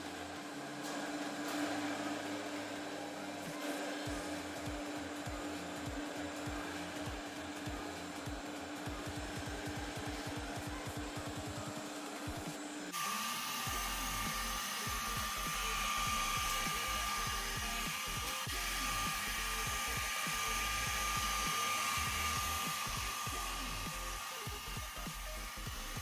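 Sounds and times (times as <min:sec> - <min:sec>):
robot vacuum motor whir: 0:00.0 - 0:26.0.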